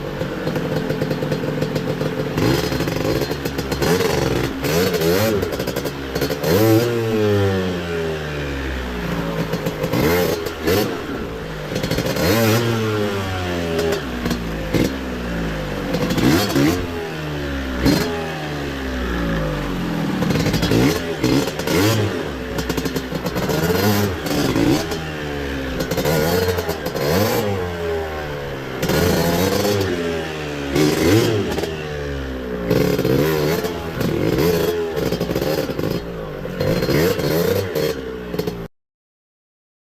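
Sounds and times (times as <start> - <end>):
motorcycle engine revving: 0.0 - 38.7.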